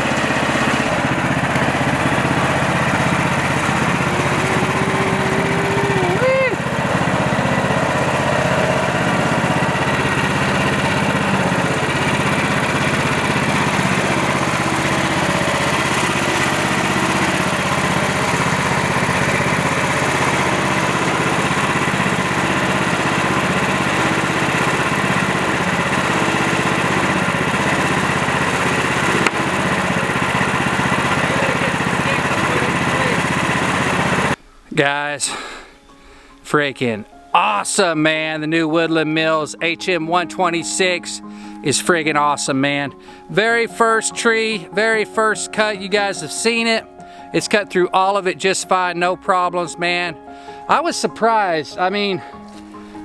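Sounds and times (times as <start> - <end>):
sawmill engine sawing log: 0.0 - 34.5, 35.2 - 53.0.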